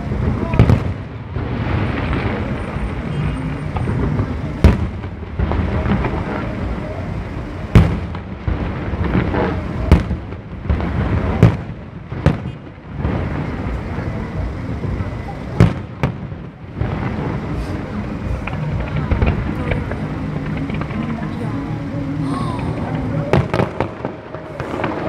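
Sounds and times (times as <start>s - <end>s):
firework shells booming: 0.0s - 21.3s, 22.6s - 25.0s
background noise: 0.0s - 25.0s.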